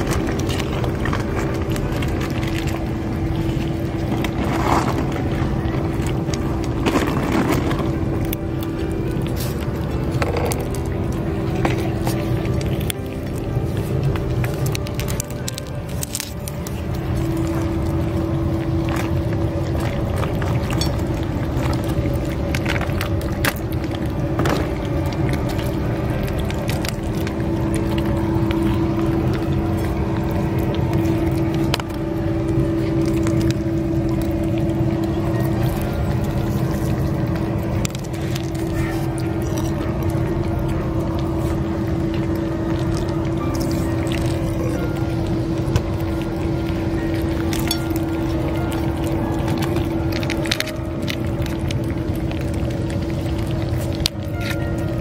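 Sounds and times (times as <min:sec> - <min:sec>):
cats eating wet food: 0:00.0 - 0:55.0
low motor hum: 0:00.0 - 0:55.0.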